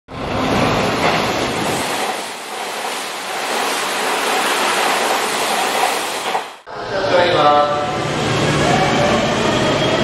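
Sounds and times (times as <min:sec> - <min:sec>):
train passing at speed: 0:00.1 - 0:10.0.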